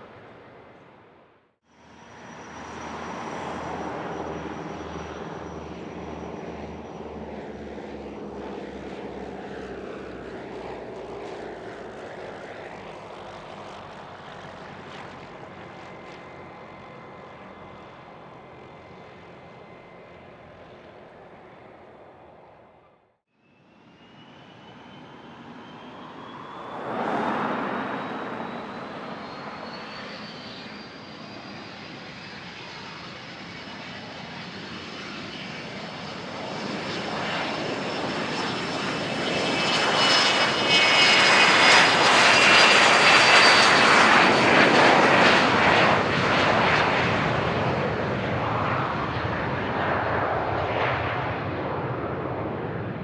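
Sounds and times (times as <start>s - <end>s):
jet aircraft passing by: 0.0s - 53.0s.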